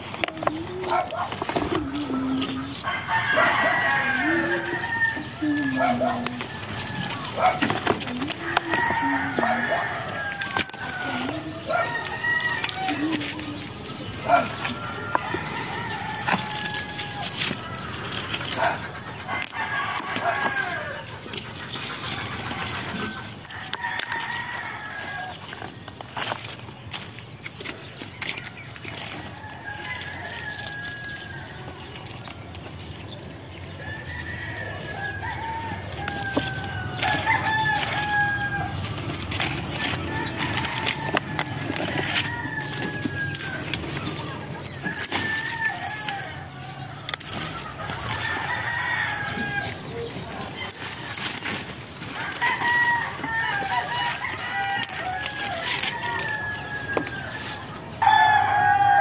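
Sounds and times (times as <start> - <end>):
leaves rustling when handled: 0.0 - 59.0
rooster crowing: 0.1 - 21.3, 22.0 - 25.6, 29.0 - 31.9, 33.8 - 59.0.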